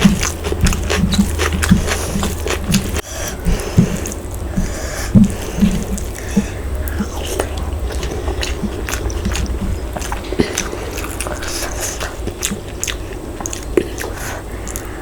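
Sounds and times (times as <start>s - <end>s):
close-up chewing and biting: 0.0s - 15.0s.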